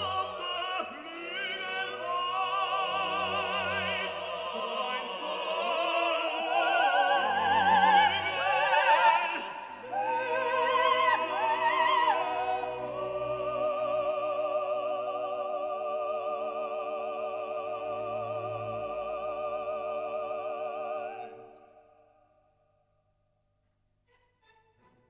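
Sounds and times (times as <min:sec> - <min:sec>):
operatic singing: 0:00.0 - 0:22.2.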